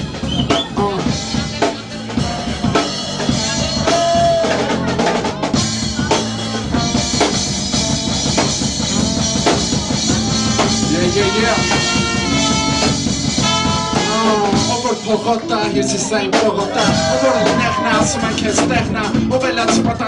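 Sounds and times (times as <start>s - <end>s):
drum kit groove: 0.0s - 20.0s
funk band playing: 0.0s - 20.0s.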